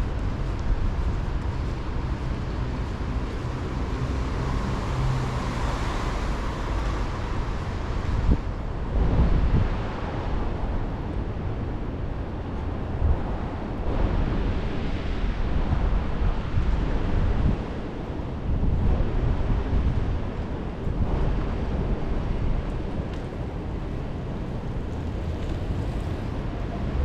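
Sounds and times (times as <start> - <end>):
street traffic: 0.0 - 27.0
wind rumbling on microphone: 0.0 - 27.0.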